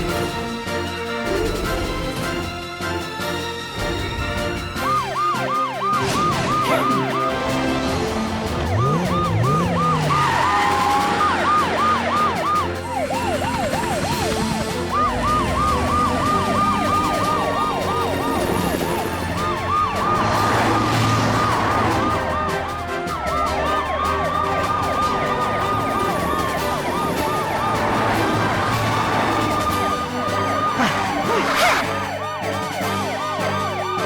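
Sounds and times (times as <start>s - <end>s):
emergency vehicle sirens wailing: 0.0s - 34.0s
music: 0.0s - 34.0s.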